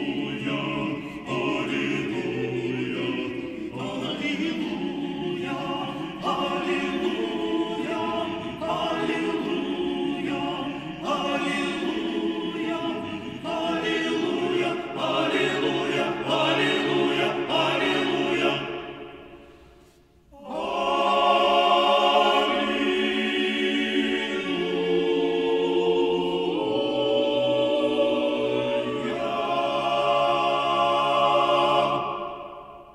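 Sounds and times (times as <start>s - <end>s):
male choir singing in harmony: 0.0s - 32.9s.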